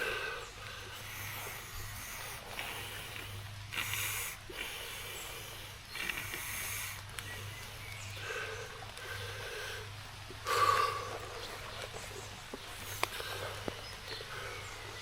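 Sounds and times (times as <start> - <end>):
person breathing hard: 0.0 - 11.6, 12.8 - 15.0
steady low hum: 0.0 - 15.0.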